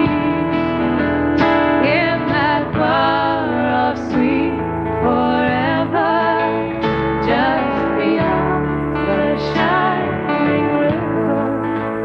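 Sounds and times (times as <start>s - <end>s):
woman singing: 0.0s - 0.7s, 1.7s - 12.0s
electric guitar: 0.0s - 12.0s
live band playing gospel: 0.0s - 12.0s.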